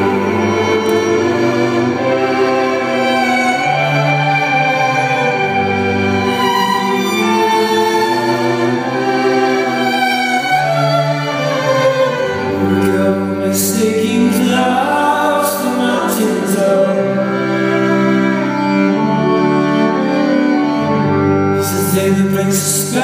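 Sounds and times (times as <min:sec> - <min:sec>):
bowed violin: 0:00.0 - 0:23.0.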